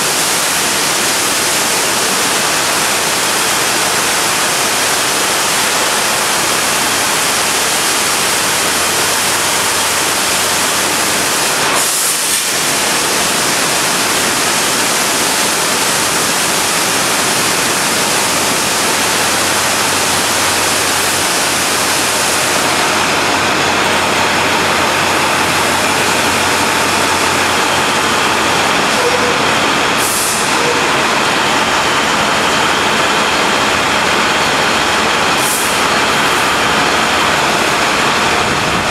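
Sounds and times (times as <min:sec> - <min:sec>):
high-pressure water jets hissing: 0:00.0 - 0:38.9.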